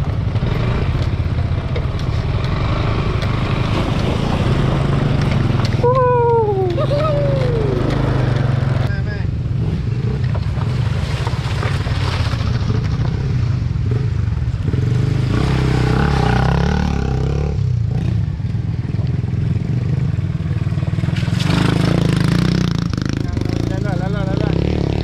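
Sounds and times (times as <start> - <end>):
small motorcycle engines revving: 0.0 - 25.0.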